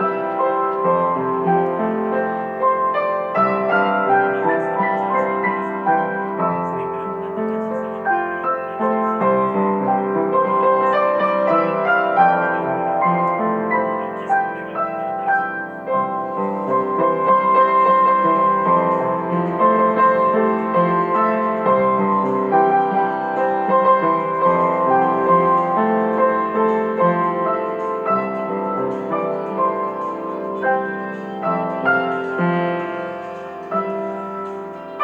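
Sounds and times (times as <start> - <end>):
gentle piano music: 0.0 - 35.0.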